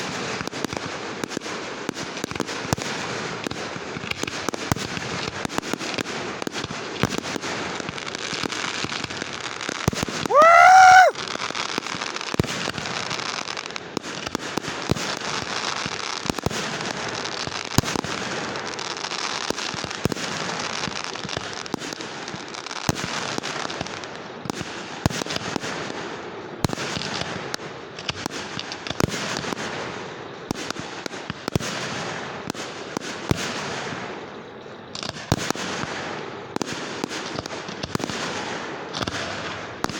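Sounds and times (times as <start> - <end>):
whistling firework: 0.0 - 12.9, 14.0 - 39.9.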